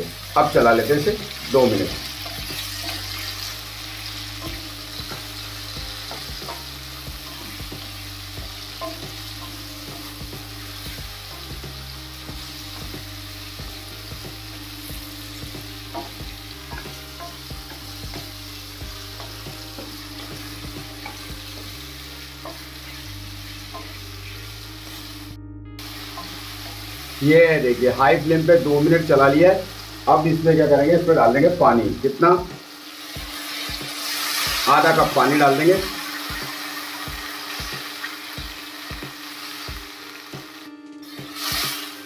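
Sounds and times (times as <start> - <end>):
fruit slices sizzling in oil: 0.0 - 42.0.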